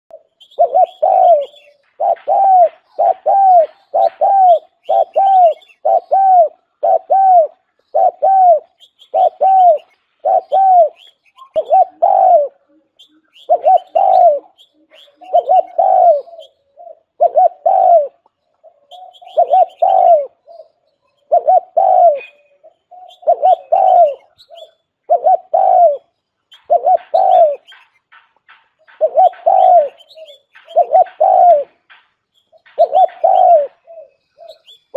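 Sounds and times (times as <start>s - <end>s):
dove cooing: 0.1s - 27.9s, 28.8s - 34.9s.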